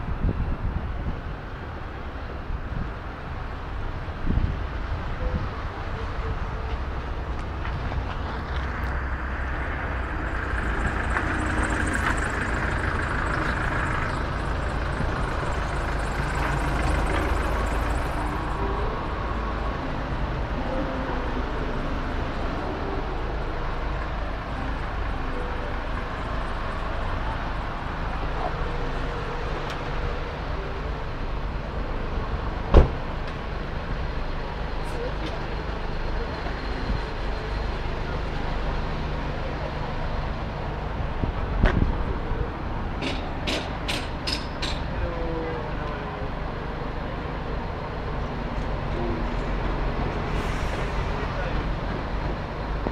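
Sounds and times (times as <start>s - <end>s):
street traffic rumble: 0.0s - 52.9s.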